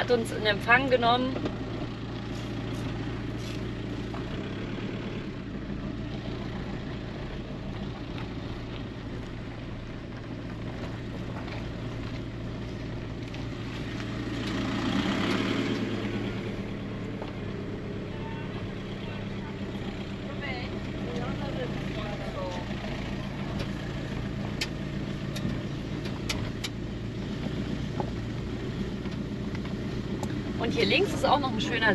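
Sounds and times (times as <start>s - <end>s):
van engine running: 0.0s - 31.9s.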